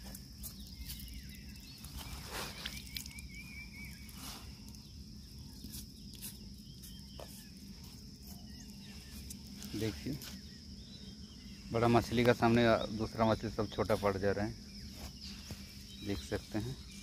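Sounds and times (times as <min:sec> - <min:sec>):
high insect drone: 0:00.0 - 0:17.0
twittering bird chirps: 0:00.0 - 0:17.0.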